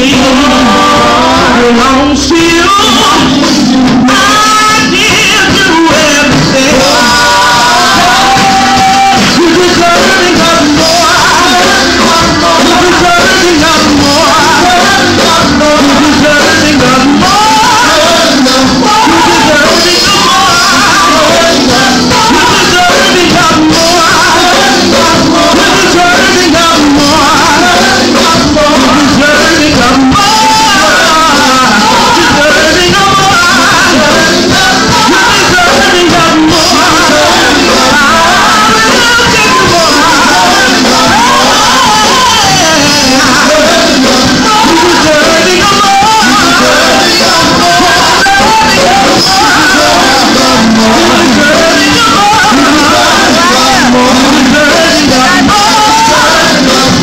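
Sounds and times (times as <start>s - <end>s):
church band playing: 0.0s - 57.0s
man singing backing vocals: 0.0s - 57.0s
woman singing lead: 0.0s - 57.0s.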